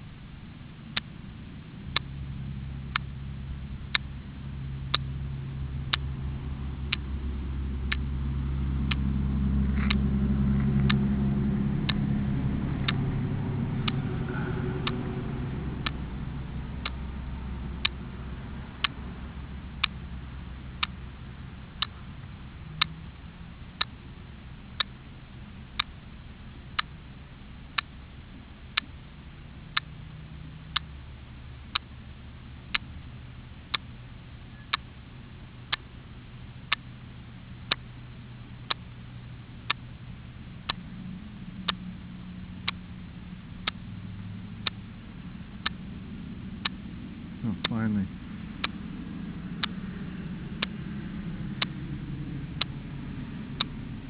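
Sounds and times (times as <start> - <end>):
sharp ticking: 0.0 - 54.0
vehicle rumble: 0.0 - 54.0.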